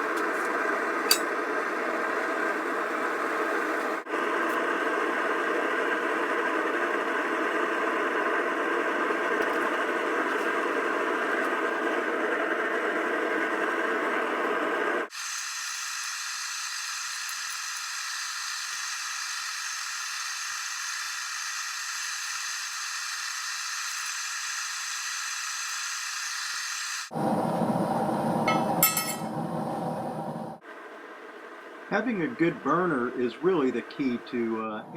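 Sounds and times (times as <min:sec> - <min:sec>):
propane burner hissing: 0:00.0 - 0:34.9.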